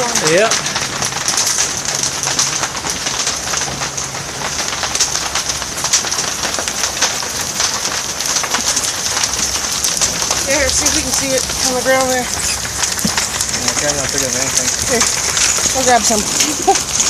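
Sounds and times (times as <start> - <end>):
hailstones ticking on surfaces: 0.0 - 17.0
heavy rain hissing: 0.0 - 17.0.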